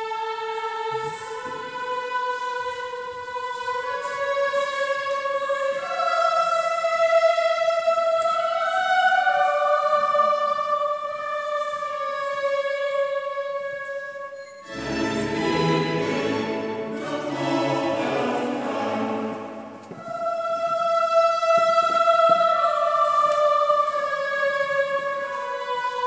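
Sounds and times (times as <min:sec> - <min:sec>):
choir singing long chords: 0:00.0 - 0:26.0.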